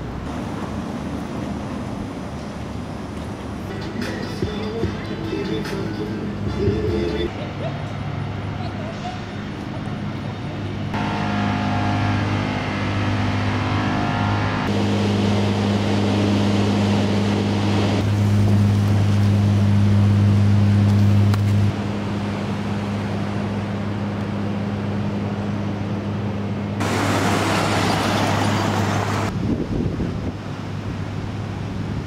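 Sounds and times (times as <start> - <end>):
car engine hum: 0.0 - 29.4
road noise: 0.0 - 32.0.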